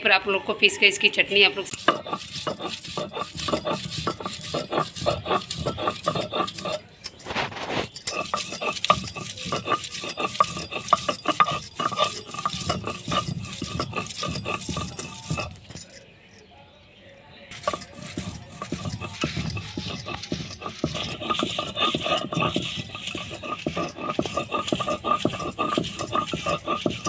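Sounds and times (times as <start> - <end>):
stone grinding on stone: 1.6 - 16.5, 17.5 - 27.0.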